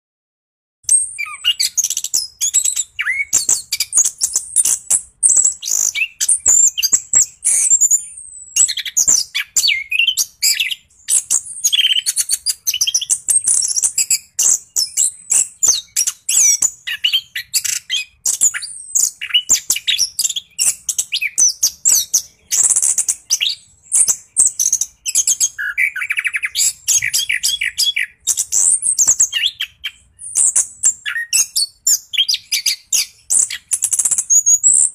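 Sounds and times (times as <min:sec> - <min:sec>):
thrush singing chirps and trills: 0:00.8 - 0:34.9.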